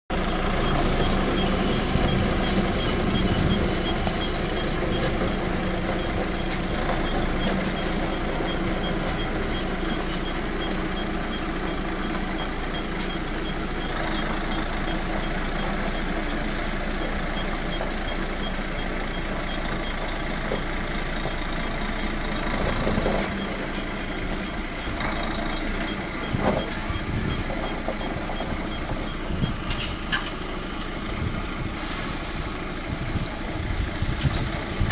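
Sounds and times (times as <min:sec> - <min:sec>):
truck diesel engine running: 0:00.1 - 0:34.9
reversing alarm beeps: 0:00.3 - 0:20.3, 0:21.2 - 0:30.2.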